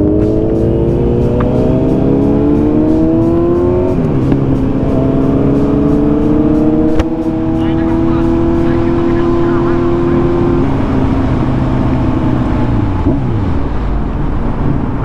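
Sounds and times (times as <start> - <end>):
motorcycle engine accelerating: 0.0 - 15.0
wind and road noise: 0.0 - 15.0.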